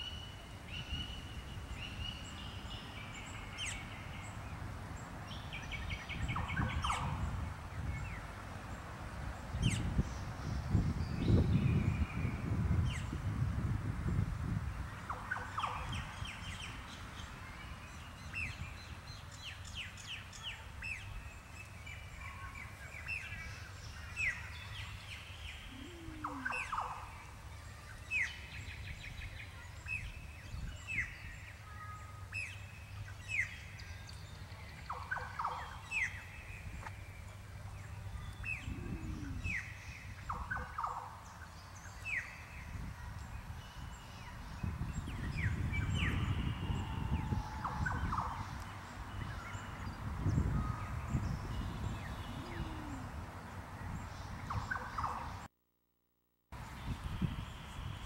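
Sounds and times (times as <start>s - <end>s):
small birds chirping: 0.0s - 13.2s, 14.8s - 55.5s.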